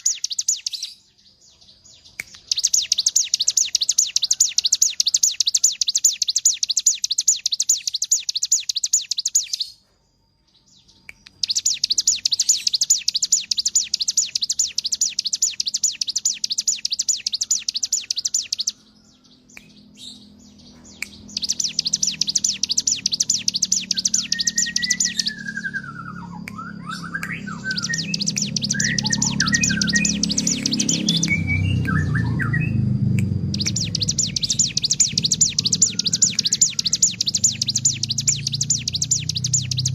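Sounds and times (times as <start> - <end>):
bird buzzy chirps: 0.0 - 39.9.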